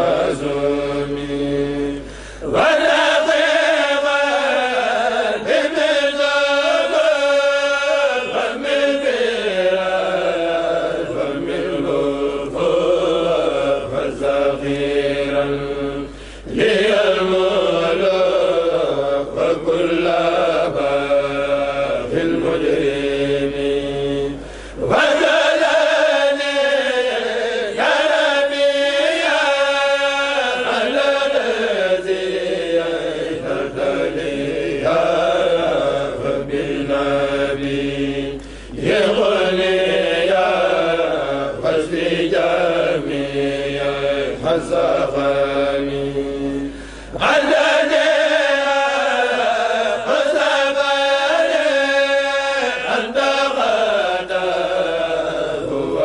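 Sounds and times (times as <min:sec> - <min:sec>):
men chanting together: 0:00.0 - 0:56.0.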